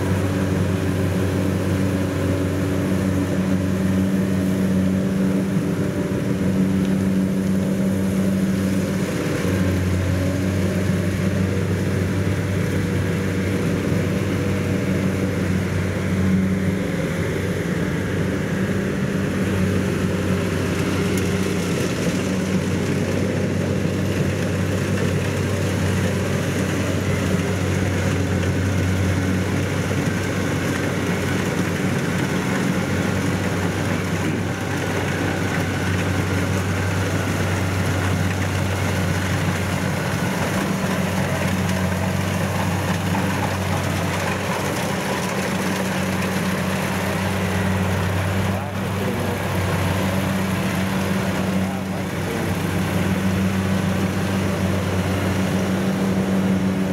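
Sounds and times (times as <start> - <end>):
combine harvester engine running: 0.0 - 56.9.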